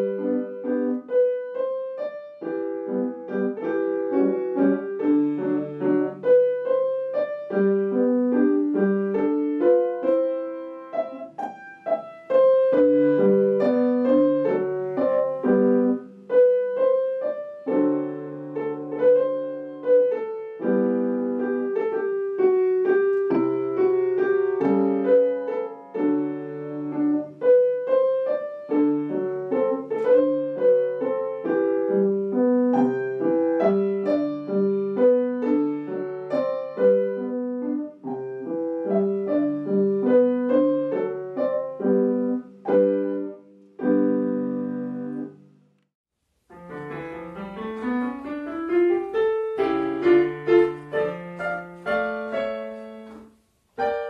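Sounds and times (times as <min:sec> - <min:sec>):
solo piano piece: 0:00.0 - 0:54.0.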